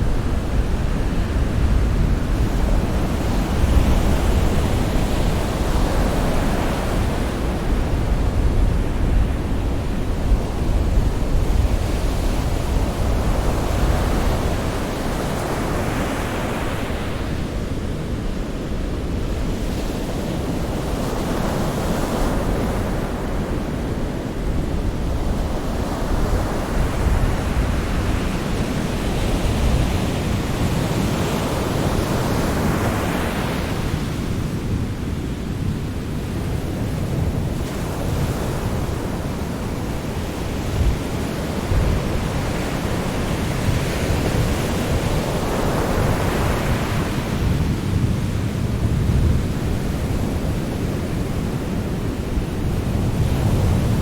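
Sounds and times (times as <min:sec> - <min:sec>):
waves breaking and washing: 0:00.0 - 0:54.0.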